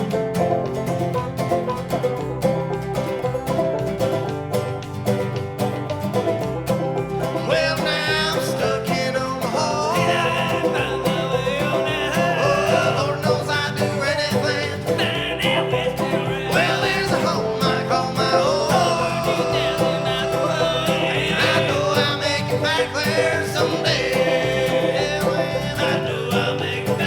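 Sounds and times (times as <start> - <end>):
banjo picking: 0.0 - 27.0
bluegrass band playing: 0.0 - 27.0
guitar picking: 0.0 - 27.0.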